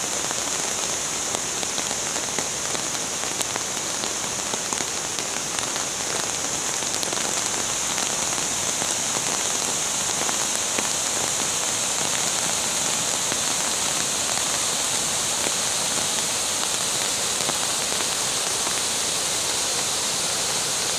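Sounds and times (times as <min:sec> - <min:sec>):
steady rain hiss: 0:00.0 - 0:20.9.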